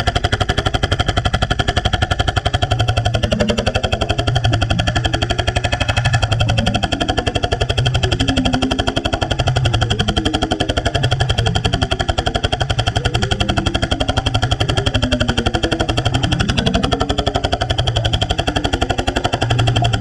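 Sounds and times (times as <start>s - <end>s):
underwater jackhammer hammering: 0.0s - 20.0s.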